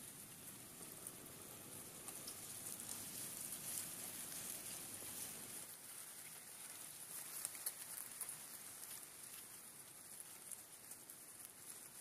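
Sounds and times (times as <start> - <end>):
light ticks: 0.0 - 12.0
steady high hiss: 0.0 - 12.0.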